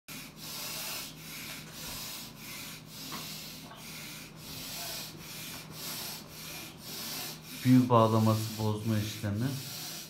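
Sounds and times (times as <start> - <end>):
rhythmic rasping noise: 0.1 - 10.0.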